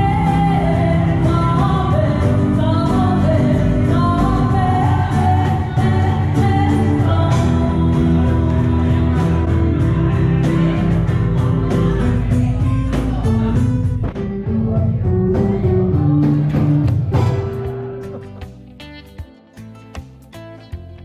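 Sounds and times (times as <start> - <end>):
song with guitar and singing: 0.0 - 21.0.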